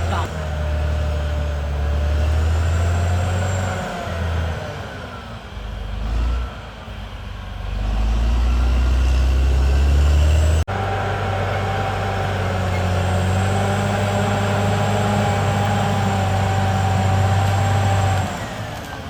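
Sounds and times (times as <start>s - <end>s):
bulldozer diesel engine working: 0.0s - 19.0s.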